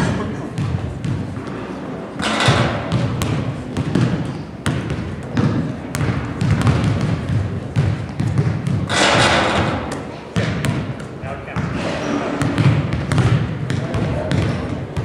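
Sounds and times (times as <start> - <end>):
basketball bouncing on wooden floor: 0.6 - 11.8, 12.4 - 15.0.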